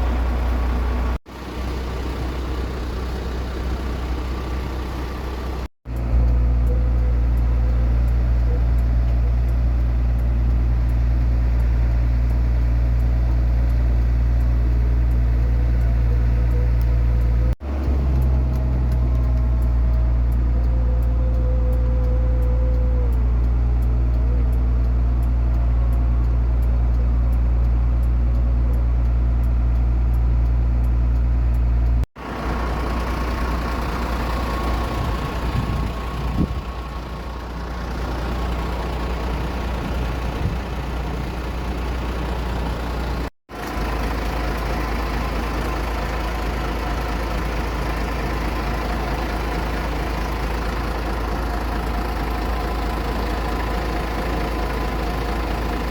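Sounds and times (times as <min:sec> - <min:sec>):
steady engine whine: 0:00.0 - 0:55.9.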